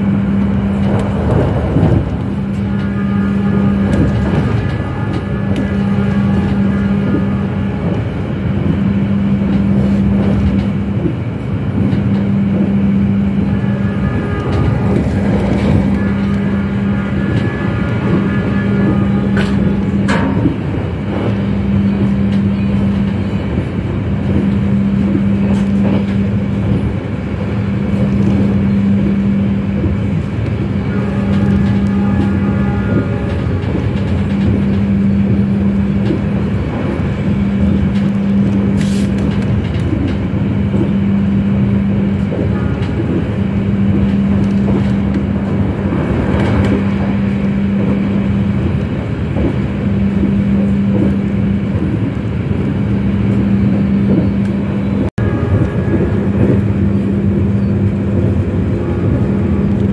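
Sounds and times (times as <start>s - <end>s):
droning hum: 0.0s - 59.9s
train rumble inside carriage: 0.0s - 59.9s.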